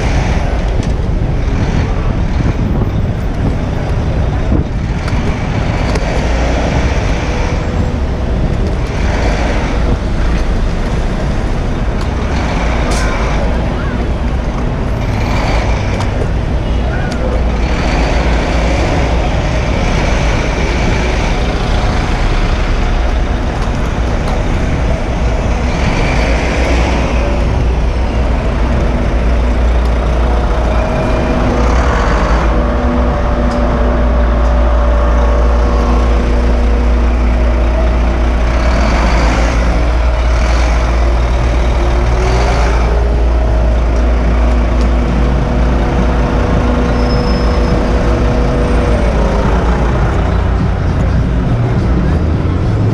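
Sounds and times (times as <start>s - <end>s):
city road traffic rumble: 0.0s - 52.9s
vehicles passing: 0.0s - 52.9s.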